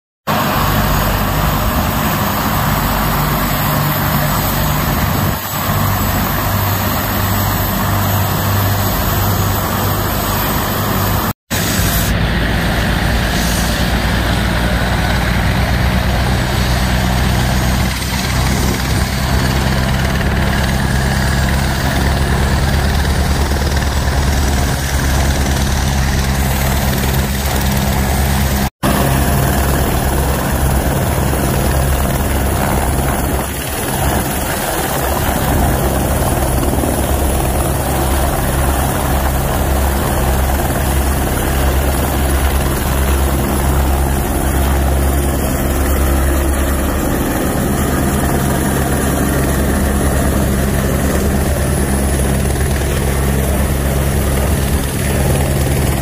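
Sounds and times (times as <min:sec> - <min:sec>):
helicopter engine and rotor: 0:00.2 - 0:56.0.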